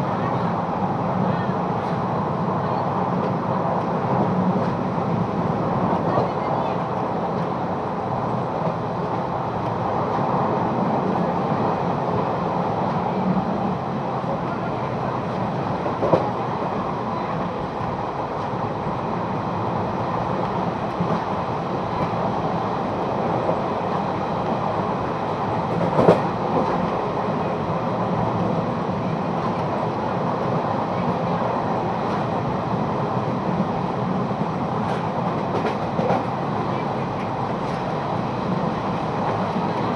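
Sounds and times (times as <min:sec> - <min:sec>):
train rumbling on track: 0:00.0 - 0:39.9.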